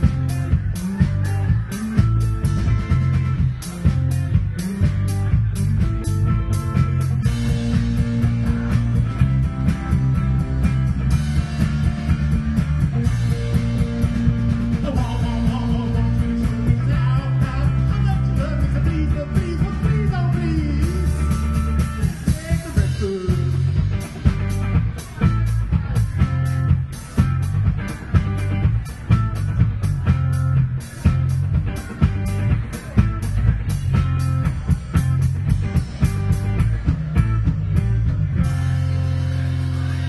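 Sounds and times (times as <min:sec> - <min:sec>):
drum kit: 0:00.0 - 0:40.0
electric guitars: 0:00.0 - 0:40.0.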